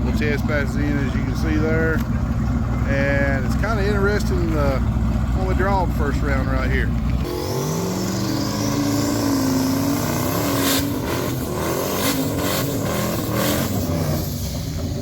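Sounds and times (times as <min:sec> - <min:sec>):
car engine revving: 0:00.0 - 0:15.0
sharp exhaust cracks: 0:00.0 - 0:15.0.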